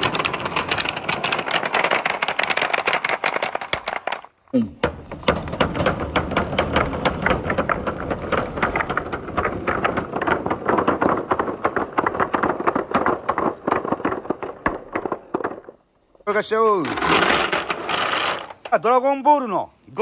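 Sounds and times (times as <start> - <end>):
hard balls rolling and clacking: 0.0 - 20.0.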